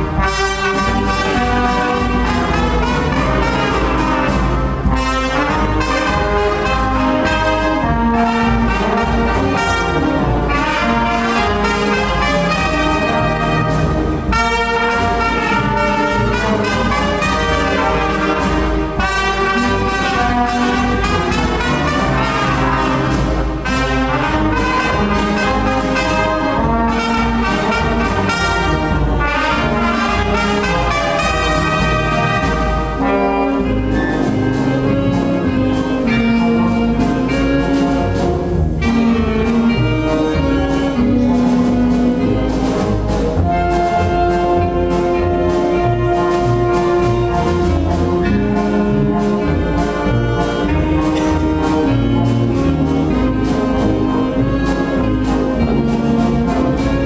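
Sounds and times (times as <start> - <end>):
brass band music: 0.0 - 57.0.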